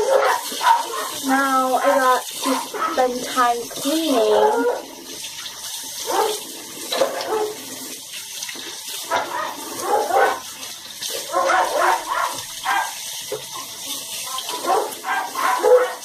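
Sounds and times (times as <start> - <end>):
running tap hiss: 0.0 - 16.0.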